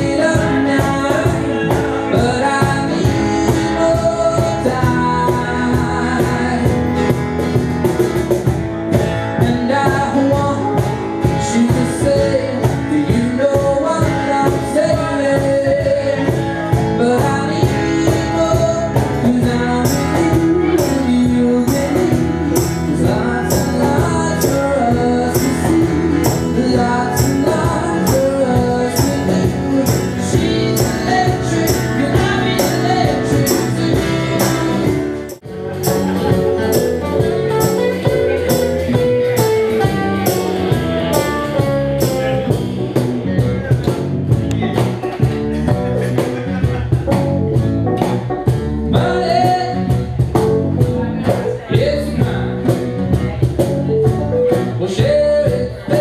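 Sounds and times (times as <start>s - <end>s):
man singing: 0.0s - 7.3s, 8.9s - 56.0s
acoustic guitar: 0.0s - 56.0s
keyboard: 0.0s - 56.0s
percussion beat: 0.0s - 56.0s.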